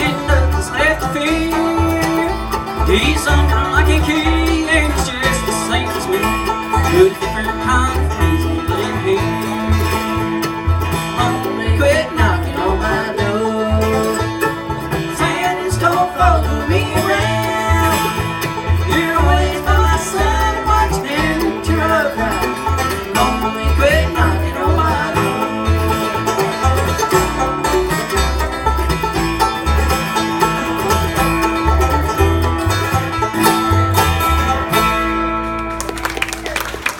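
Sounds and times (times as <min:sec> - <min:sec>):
bluegrass band playing: 0:00.0 - 0:36.9.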